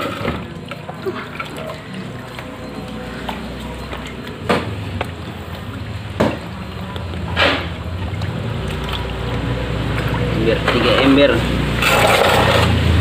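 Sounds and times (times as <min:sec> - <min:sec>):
fish splashing in tubs of water: 0:00.0 - 0:13.0.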